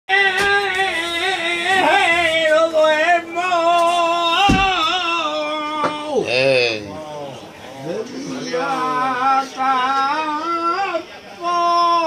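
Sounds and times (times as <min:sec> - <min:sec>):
solo singer ornamented singing: 0:00.1 - 0:12.0.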